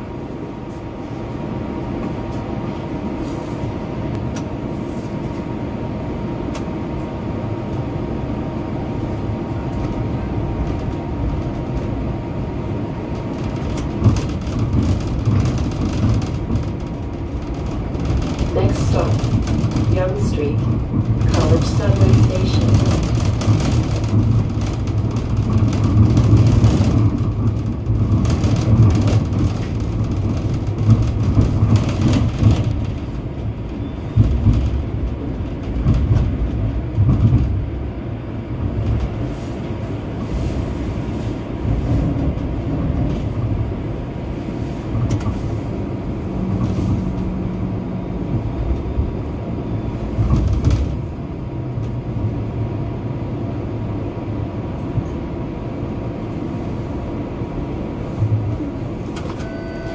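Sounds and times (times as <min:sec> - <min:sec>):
streetcar wheels rumbling on rails: 0:00.0 - 0:59.9.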